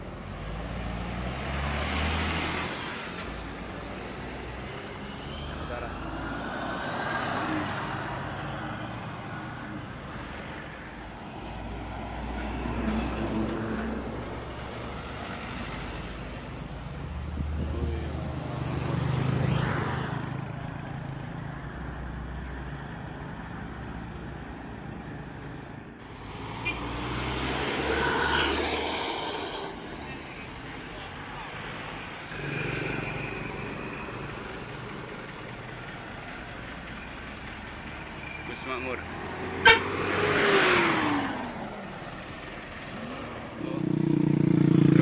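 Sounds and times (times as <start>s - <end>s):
low diesel engine drone: 0.0s - 39.8s
vehicles passing: 0.0s - 45.0s.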